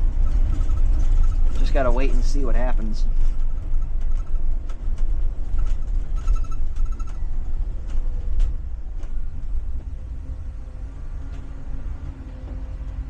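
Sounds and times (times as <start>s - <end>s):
bus body rattles and clicks: 0.0s - 13.0s
bus engine and road rumble: 0.0s - 13.0s.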